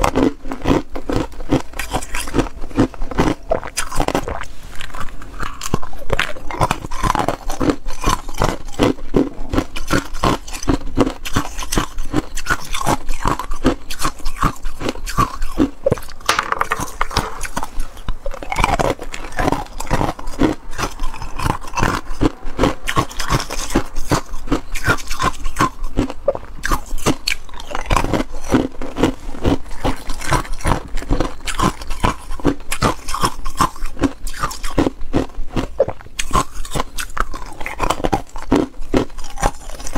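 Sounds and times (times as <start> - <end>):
ice cubes crunching: 0.0 - 39.9.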